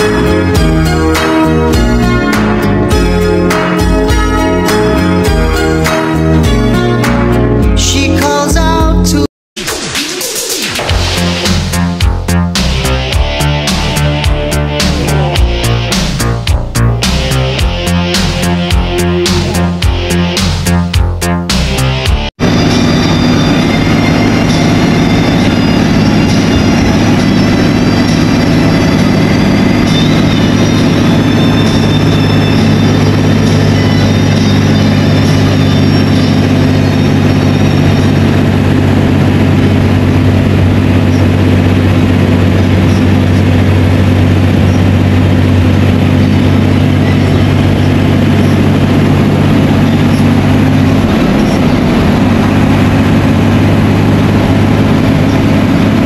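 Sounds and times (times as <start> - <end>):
road noise: 0.0 - 8.5, 10.9 - 56.0
diesel coach engine running: 0.0 - 9.3, 10.3 - 56.0.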